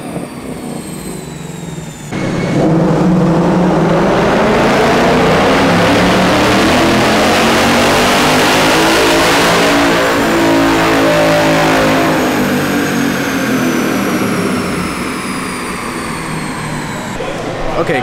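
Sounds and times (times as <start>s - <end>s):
car engine on dyno: 0.0s - 18.0s
high whine: 0.0s - 18.0s.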